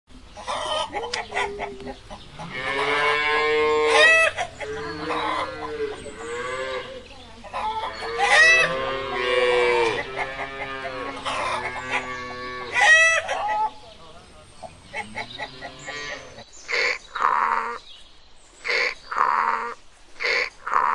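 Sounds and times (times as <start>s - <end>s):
hens clucking: 0.2s - 17.8s.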